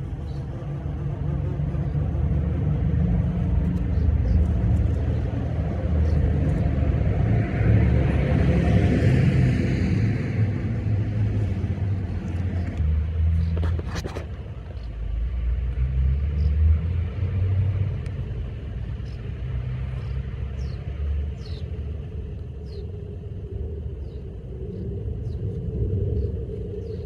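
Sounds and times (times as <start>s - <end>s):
low uneven rumble: 0.0s - 27.0s.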